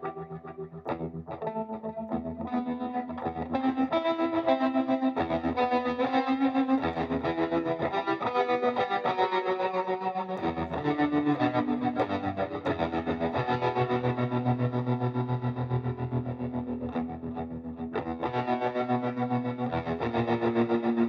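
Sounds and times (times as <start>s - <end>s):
distorted electric guitar melody: 0.0s - 21.0s.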